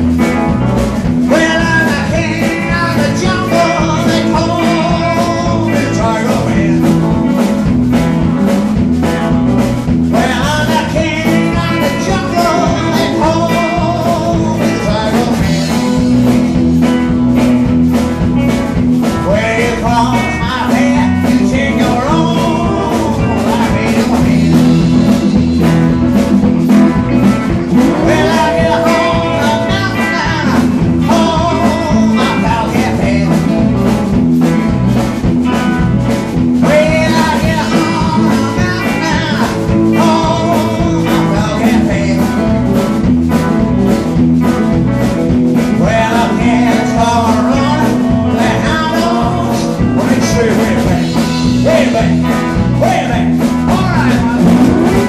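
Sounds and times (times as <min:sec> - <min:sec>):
drums beating: 0:00.0 - 0:55.0
electric guitars: 0:00.0 - 0:55.0
person singing: 0:00.2 - 0:08.2, 0:09.6 - 0:17.0, 0:18.6 - 0:55.0.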